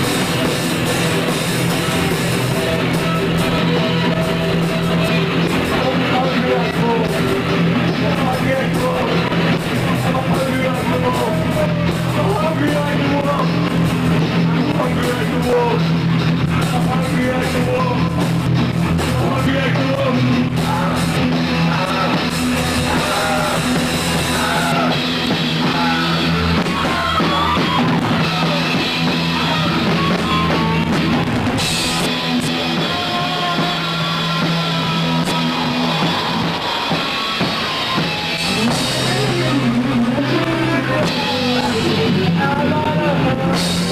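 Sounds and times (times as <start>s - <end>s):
rock band playing loud: 0.0s - 43.9s.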